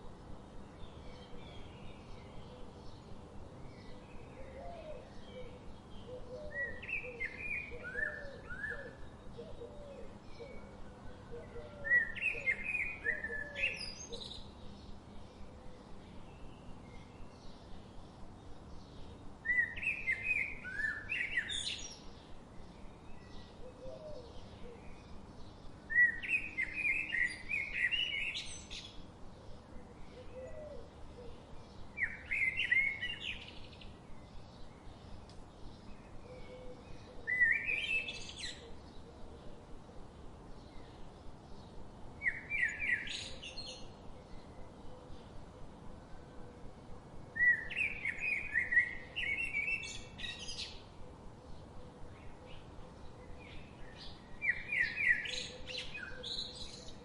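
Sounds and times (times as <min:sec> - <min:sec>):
bird singing song phrase: 0:00.6 - 0:39.8, 0:40.5 - 0:46.5, 0:47.3 - 0:57.0.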